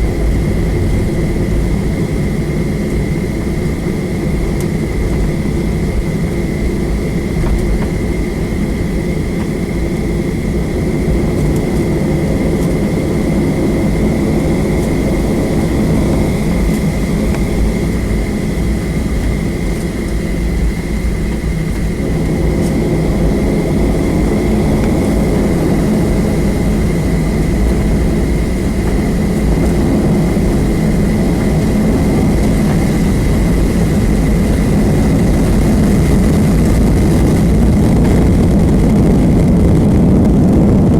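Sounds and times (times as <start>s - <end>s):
jet engine rumble in cabin: 0.0s - 40.9s
jet engine whine: 0.0s - 40.9s.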